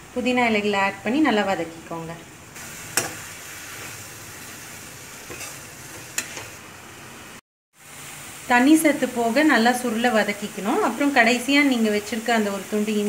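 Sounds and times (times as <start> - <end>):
leaves sizzling in oil: 2.5 - 13.0.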